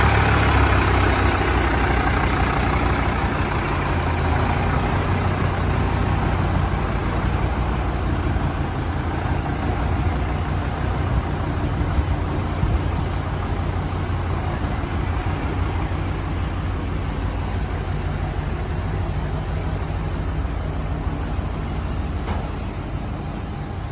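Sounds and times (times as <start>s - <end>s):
large engine running steadily: 0.0s - 23.9s.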